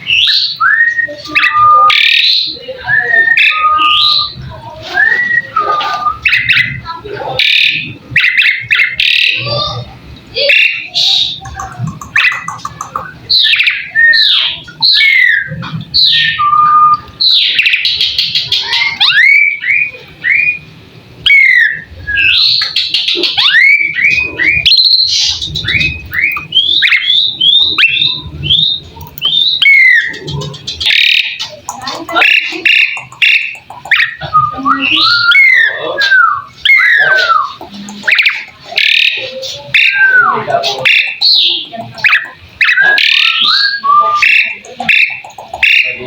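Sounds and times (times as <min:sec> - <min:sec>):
starling singing: 0:00.0 - 0:46.0.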